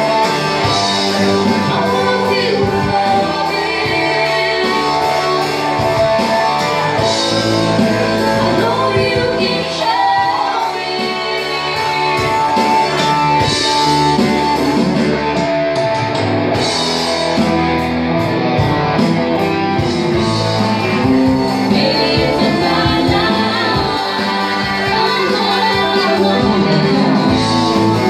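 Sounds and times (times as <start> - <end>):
drums: 0.0 - 28.0
electric guitar: 0.0 - 28.0.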